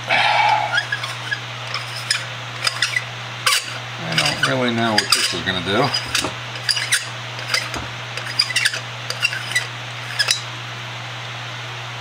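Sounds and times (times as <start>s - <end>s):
metal threads squeaking and clicking: 0.5s - 10.5s.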